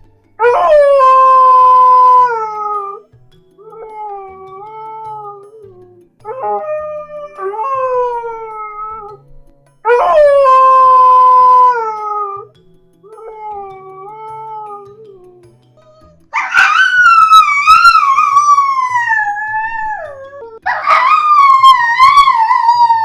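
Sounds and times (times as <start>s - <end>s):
dog whining howls: 0.4s - 3.0s, 3.6s - 9.2s, 9.9s - 23.0s.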